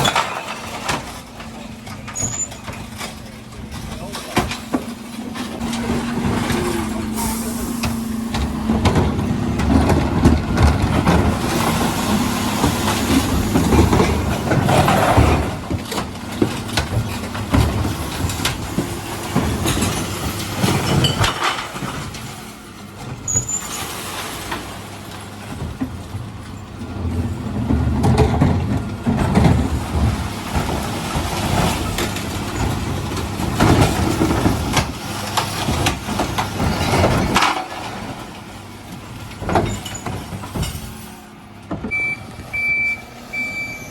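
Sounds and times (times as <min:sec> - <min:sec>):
clatter of knocks and bangs: 0:00.0 - 0:06.7, 0:07.8 - 0:22.4, 0:27.1 - 0:41.0
diesel engine running: 0:00.1 - 0:43.9.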